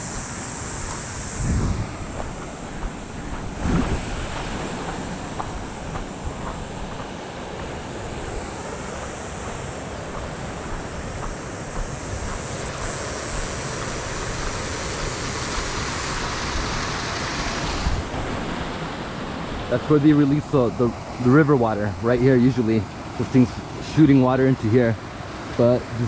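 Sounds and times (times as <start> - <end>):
water rushing from dam outlet: 0.0 - 26.0.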